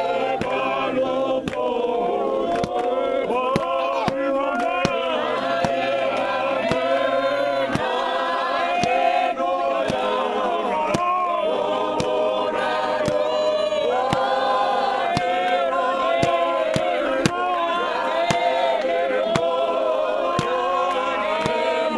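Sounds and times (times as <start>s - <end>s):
choir singing a hymn: 0.0s - 21.9s.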